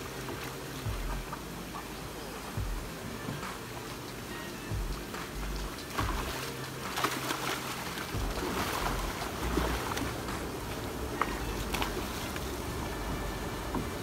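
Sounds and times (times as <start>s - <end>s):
fish splashing in water: 0.0s - 14.0s
water streaming off net: 0.0s - 14.0s.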